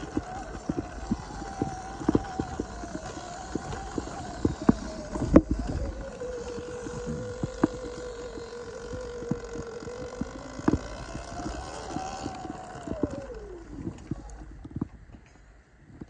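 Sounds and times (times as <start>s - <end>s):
electric motor whining: 0.0s - 15.4s.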